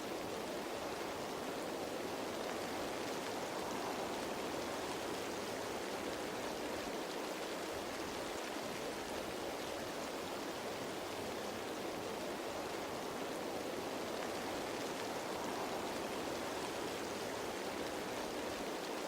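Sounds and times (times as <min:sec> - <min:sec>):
rain falling on leaves: 0:00.0 - 0:19.0.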